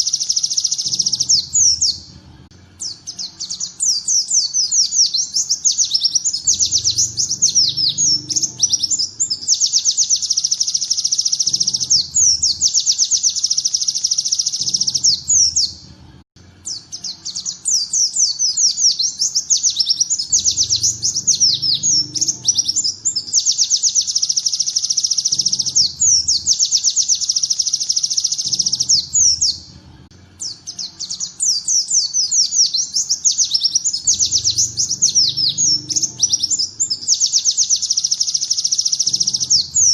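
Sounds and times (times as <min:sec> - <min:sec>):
bird singing fast trills: 0:00.0 - 0:15.8, 0:16.6 - 0:39.9.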